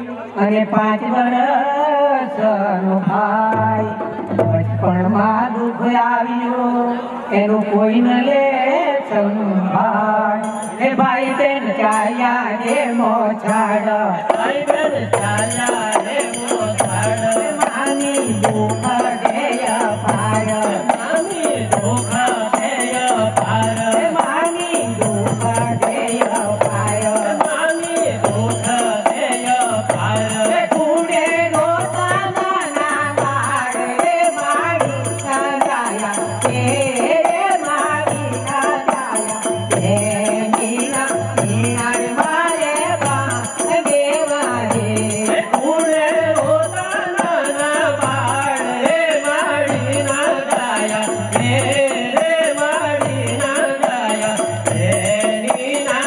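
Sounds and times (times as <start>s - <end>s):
men singing through a microphone: 0.0s - 56.0s
rattling percussion: 10.4s - 56.0s.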